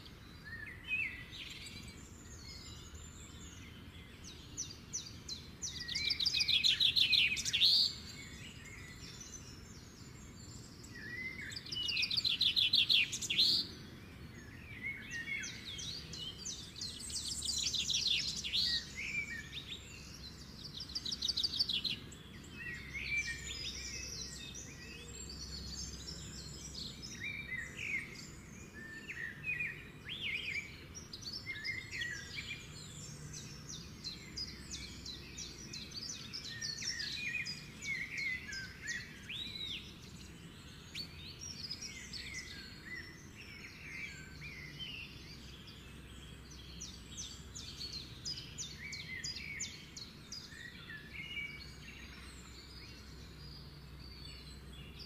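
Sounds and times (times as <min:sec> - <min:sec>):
small birds twittering: 0:00.0 - 0:55.0.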